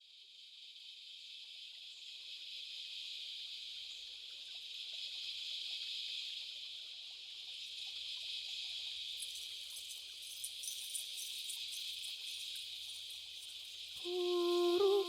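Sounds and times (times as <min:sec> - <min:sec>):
insects buzzing: 0:00.4 - 0:15.0.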